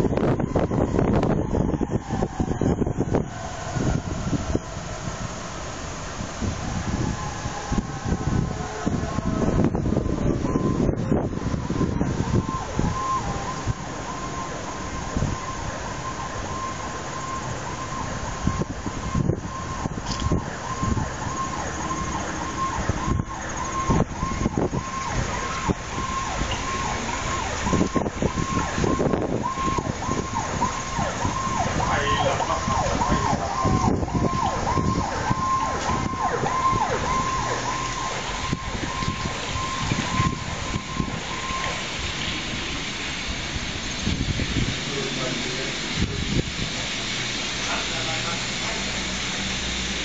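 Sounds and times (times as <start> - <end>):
siren yelping: 0.0 - 43.4
city traffic rumble: 0.0 - 50.0.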